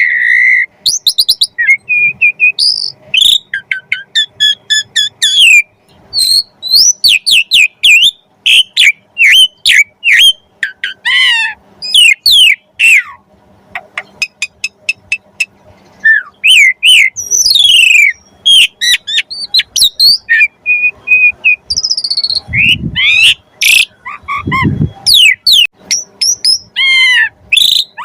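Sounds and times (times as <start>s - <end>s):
starling singing whistles and chirps: 0.0s - 13.2s, 14.2s - 28.0s.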